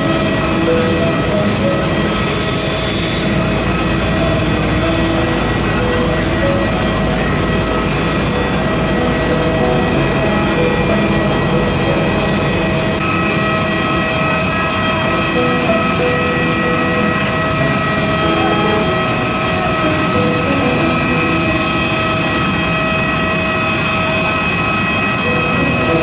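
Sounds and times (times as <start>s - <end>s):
auxiliary power unit whining: 0.0s - 26.0s
steady high tones: 0.0s - 26.0s.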